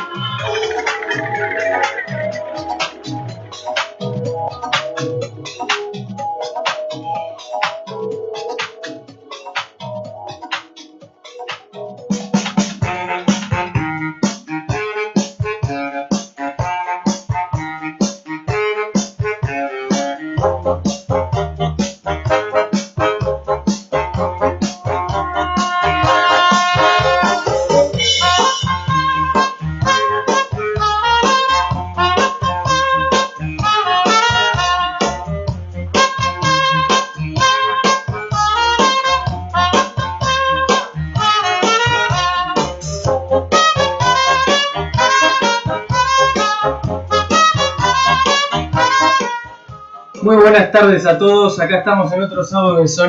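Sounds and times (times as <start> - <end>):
keyboard instrumental music: 0.0 - 53.0.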